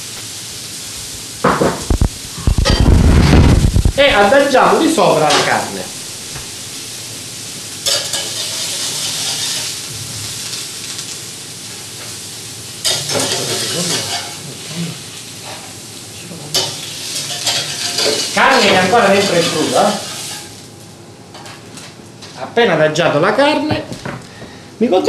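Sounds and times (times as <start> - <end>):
meat sizzling on a grill pan: 0.0 - 21.0.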